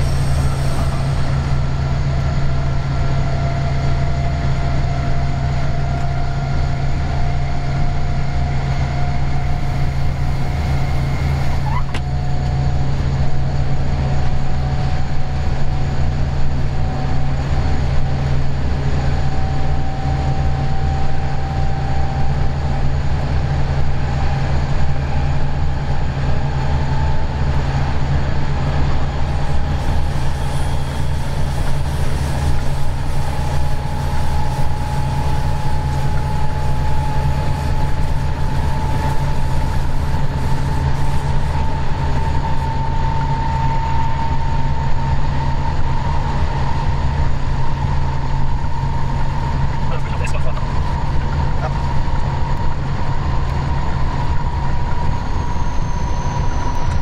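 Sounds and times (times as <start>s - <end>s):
whine rising in pitch: 0.0s - 17.4s, 24.1s - 57.0s
locomotive engine drone: 0.0s - 57.0s.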